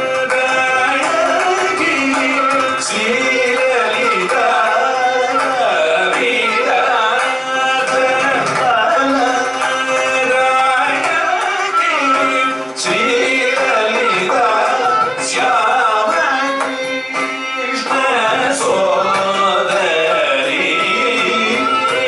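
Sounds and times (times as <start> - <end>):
mridangam strokes: 0.0 - 22.0
tanpura drone: 0.0 - 22.0
two men singing: 0.0 - 22.0
violin melody: 0.0 - 22.0.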